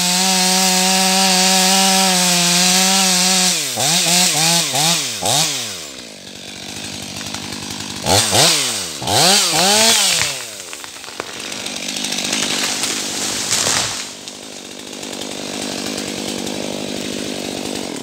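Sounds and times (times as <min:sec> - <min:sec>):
chainsaw revving and idling: 0:00.0 - 0:18.0.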